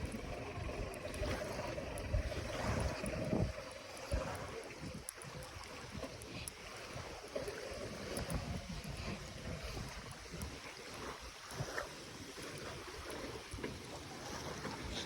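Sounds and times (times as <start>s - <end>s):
shallow waves washing: 0.0s - 15.0s
wind gusting against microphone: 0.0s - 15.0s.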